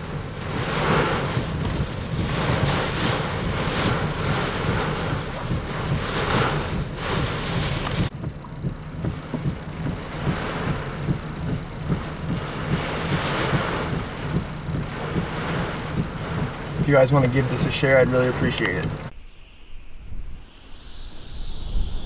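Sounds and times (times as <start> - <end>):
wind buffeting microphone: 0.0 - 19.1
low vehicle rumble: 0.0 - 22.0.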